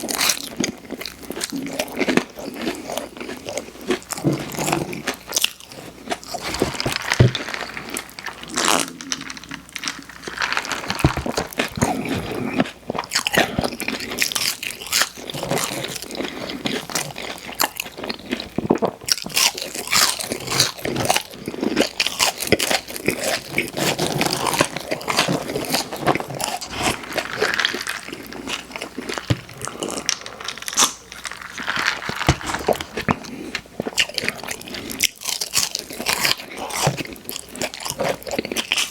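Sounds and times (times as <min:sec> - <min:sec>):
crunchy bites: 0:00.0 - 0:38.9.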